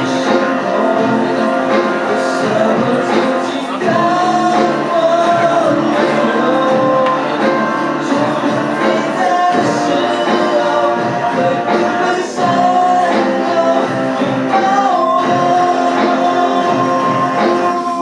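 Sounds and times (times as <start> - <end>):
live rock band playing: 0.0 - 18.0
person singing long notes: 0.0 - 18.0.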